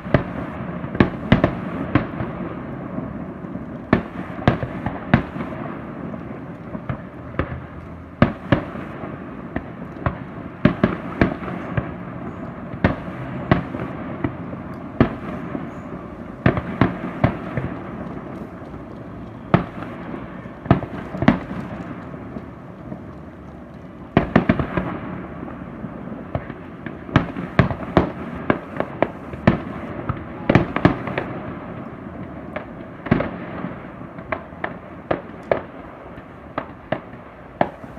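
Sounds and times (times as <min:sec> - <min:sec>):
fireworks bangs: 0:00.0 - 0:37.9
rumble of firework bursts: 0:00.0 - 0:37.9.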